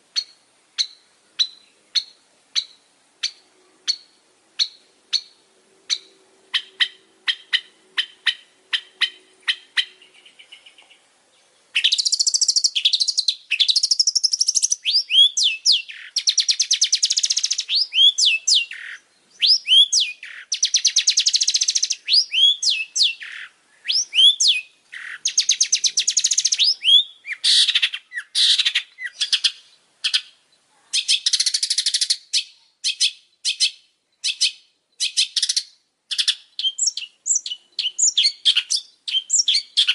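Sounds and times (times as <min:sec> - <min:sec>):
bird singing sharp notes and trills: 0:00.0 - 0:39.9.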